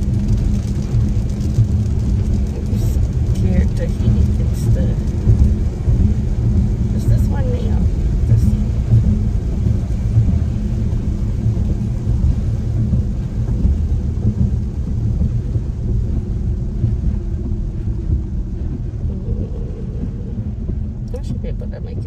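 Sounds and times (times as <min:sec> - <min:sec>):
car engine: 0:00.0 - 0:22.0
tyre and road noise: 0:00.0 - 0:22.0.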